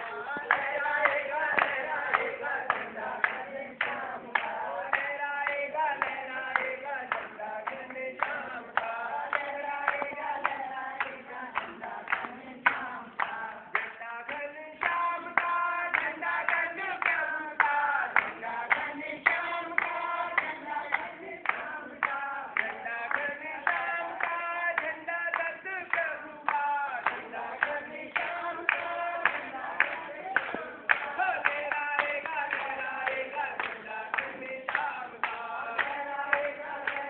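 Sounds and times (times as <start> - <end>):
voices singing in chorus: 0.0 - 37.0.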